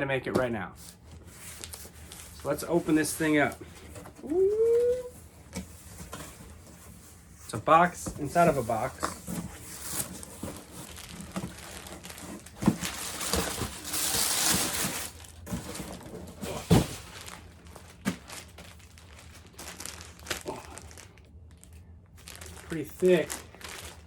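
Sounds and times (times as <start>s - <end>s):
cardboard rustling and crinkling: 0.4s - 24.0s.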